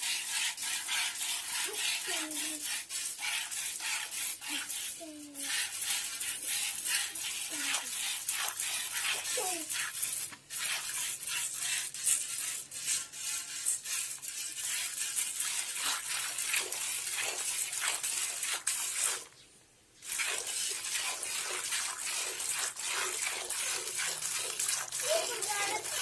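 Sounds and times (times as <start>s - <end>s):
water splashing in spurts: 0.0s - 19.4s, 20.0s - 26.0s.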